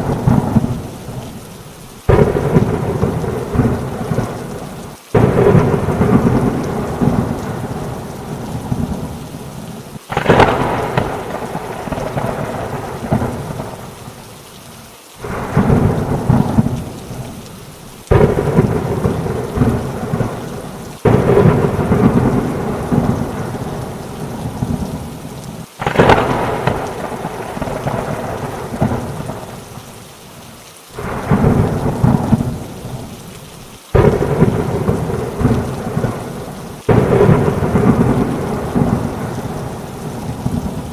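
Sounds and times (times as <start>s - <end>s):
thunder rumbling: 0.0s - 14.2s, 15.2s - 29.8s, 31.0s - 33.2s, 33.9s - 40.9s
rain falling: 0.0s - 40.9s.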